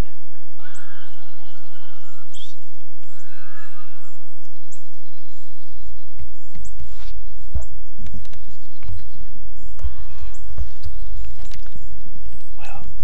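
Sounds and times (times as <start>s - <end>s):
birds chirping: 0.0s - 13.0s
harsh lower bird calls: 0.0s - 13.0s.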